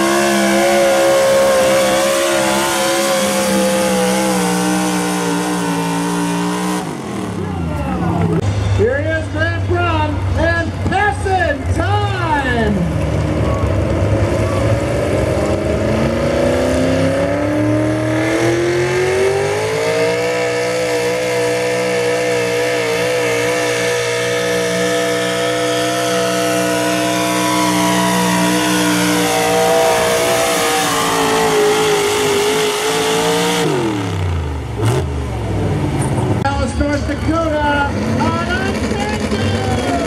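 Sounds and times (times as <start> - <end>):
engine at full throttle: 0.0 - 8.6, 12.6 - 40.0.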